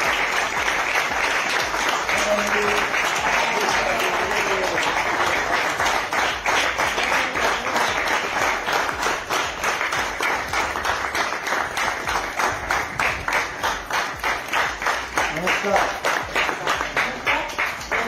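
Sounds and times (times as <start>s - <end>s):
people clapping: 0.0s - 18.0s.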